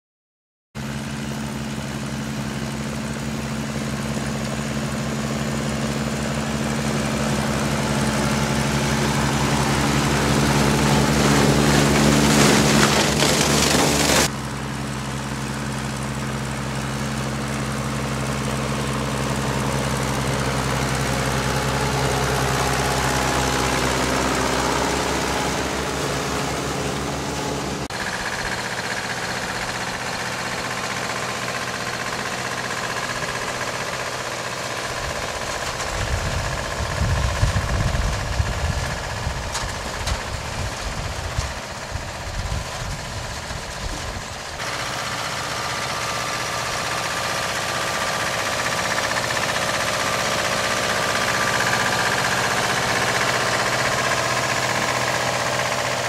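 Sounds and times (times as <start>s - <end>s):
tractor engine running: 0.8s - 56.0s.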